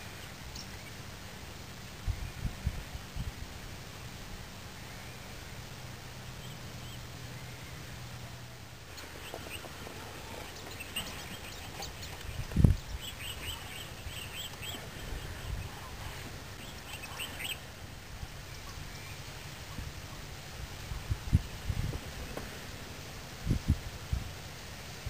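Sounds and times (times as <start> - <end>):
birds chirping: 0.0 - 3.2, 3.9 - 23.0.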